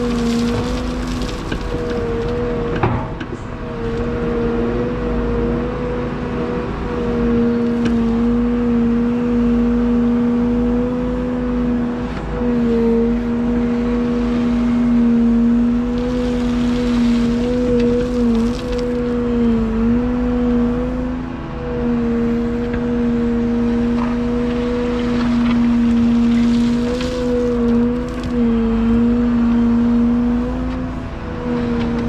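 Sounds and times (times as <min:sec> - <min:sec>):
excavator diesel engine and hydraulics: 0:00.0 - 0:32.0.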